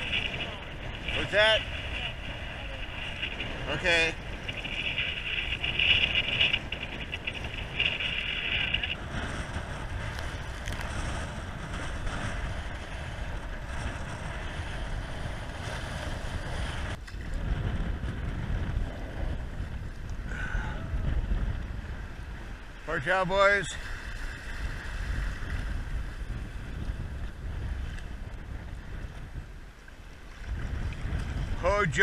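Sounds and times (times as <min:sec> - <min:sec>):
waves splashing around kayak: 0:00.0 - 0:32.0
wind rumbling on microphone: 0:00.0 - 0:32.0.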